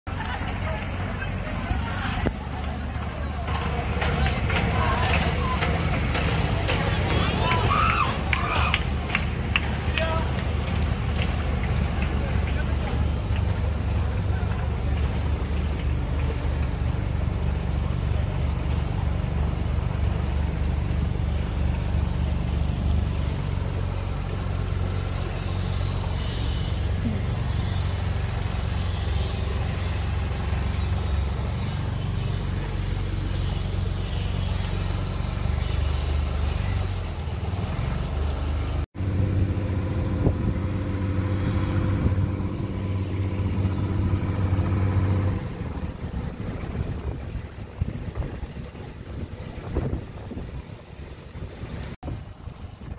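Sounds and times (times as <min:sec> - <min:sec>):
boat engine droning hum: 0:00.1 - 0:52.9
wind and water hiss: 0:00.1 - 0:52.9.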